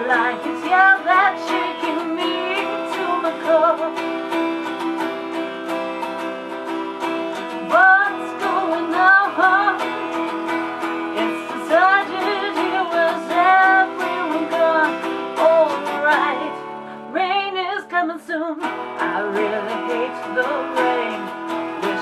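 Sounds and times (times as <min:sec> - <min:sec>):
person singing: 0:00.0 - 0:04.8, 0:07.3 - 0:22.0
acoustic guitar strumming: 0:00.0 - 0:22.0.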